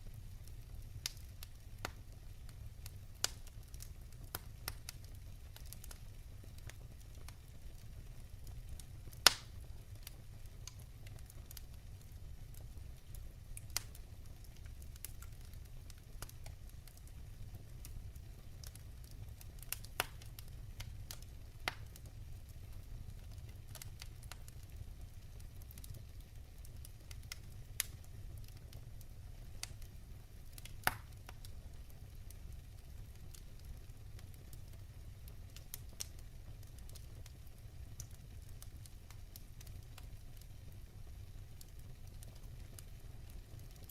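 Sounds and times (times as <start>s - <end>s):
fire low rumble: 0.0s - 43.9s
wood fire crackling and popping: 0.0s - 43.9s.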